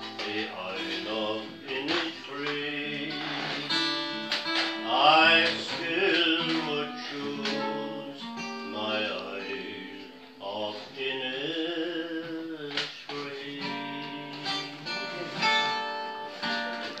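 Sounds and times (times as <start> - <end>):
elderly man singing: 0.0 - 17.0.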